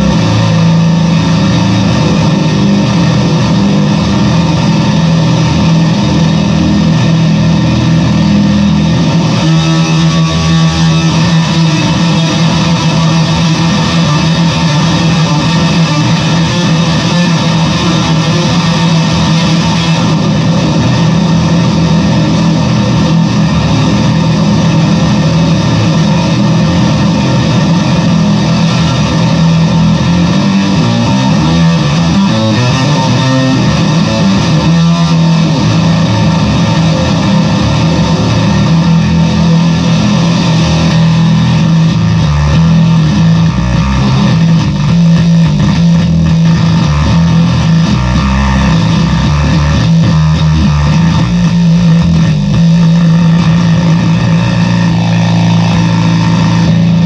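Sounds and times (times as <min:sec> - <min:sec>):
distorted bass guitar note: 0:00.0 - 0:57.0.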